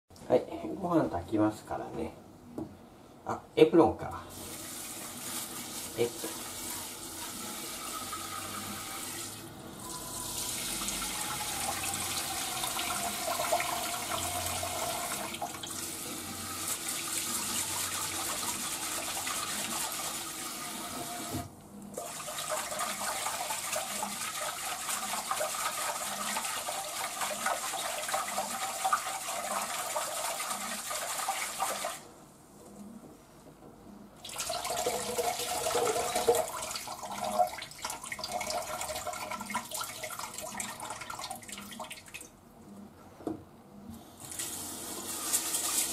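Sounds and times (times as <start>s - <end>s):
tap water running into pot: 4.3s - 32.0s, 34.2s - 41.8s, 44.3s - 45.9s.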